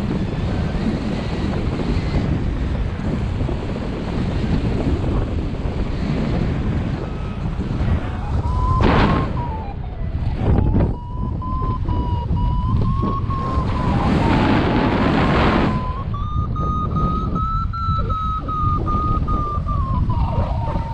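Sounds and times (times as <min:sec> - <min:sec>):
wind buffeting microphone: 0:00.0 - 0:20.9
high wavering variometer tone: 0:03.4 - 0:20.9.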